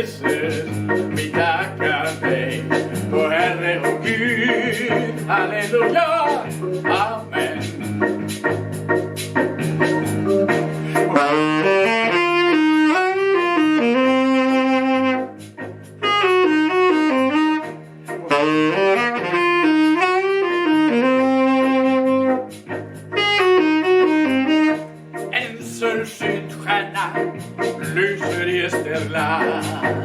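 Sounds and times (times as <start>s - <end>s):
held bass line: 0.0s - 30.0s
reedy lead melody: 0.0s - 30.0s.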